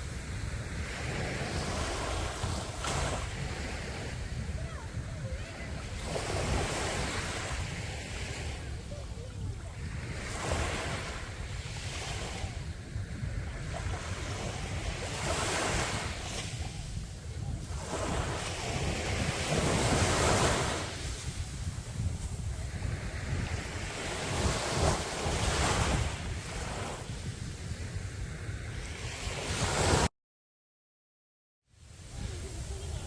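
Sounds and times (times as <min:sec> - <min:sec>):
sea waves breaking on beach: 0:00.0 - 0:30.1
wind rumble on microphone: 0:00.0 - 0:30.1, 0:31.8 - 0:33.0.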